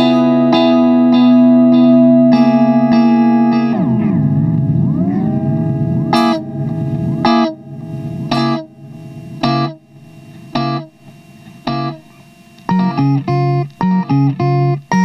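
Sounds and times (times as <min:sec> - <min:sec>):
electric guitar with delay: 0:00.0 - 0:15.0
guitar chord ringing into echoes: 0:00.0 - 0:15.0.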